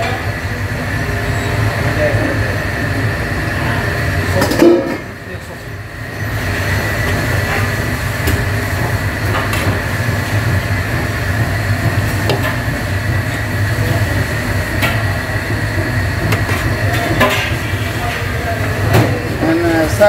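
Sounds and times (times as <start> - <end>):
machine drone with low hum: 0.0 - 20.0.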